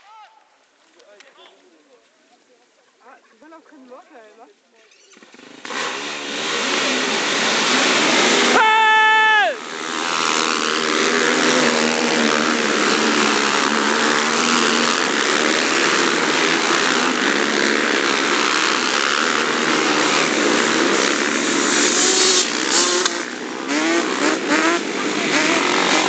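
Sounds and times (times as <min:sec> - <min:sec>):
quad bike engines revving: 0:05.0 - 0:26.0.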